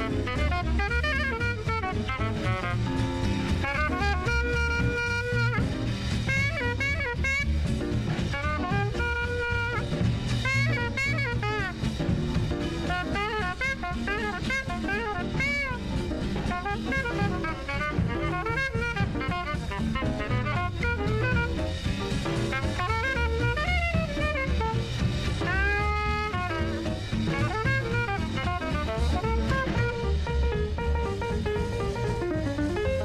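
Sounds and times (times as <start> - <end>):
drum kit: 0.0 - 33.0
saxophone and horns: 0.0 - 33.0.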